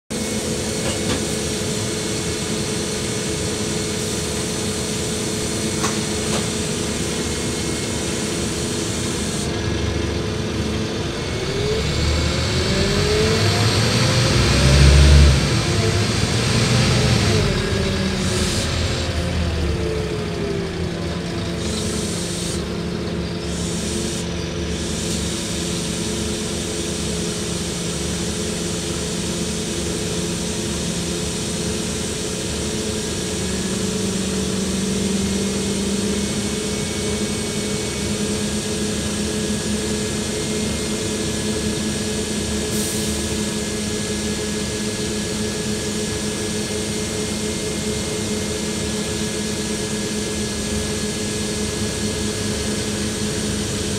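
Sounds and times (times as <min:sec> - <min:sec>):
bus diesel engine running: 0:00.1 - 0:53.9.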